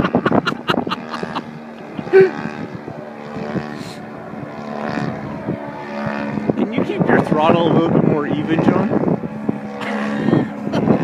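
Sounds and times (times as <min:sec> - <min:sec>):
model plane engine droning overhead: 0:00.0 - 0:11.0.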